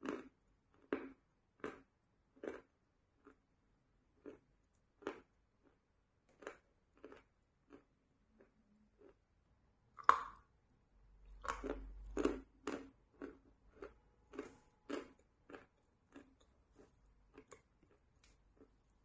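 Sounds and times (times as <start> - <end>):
crunchy chewing: 0.0 - 3.5, 4.1 - 9.2, 11.2 - 19.0.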